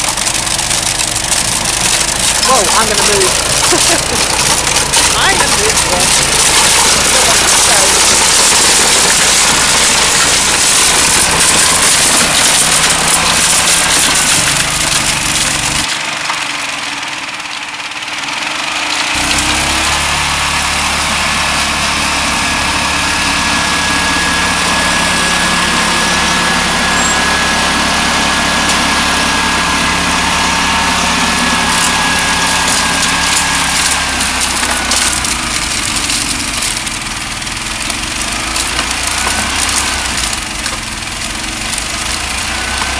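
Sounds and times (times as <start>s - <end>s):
snow blower engine running: 0.0s - 42.9s.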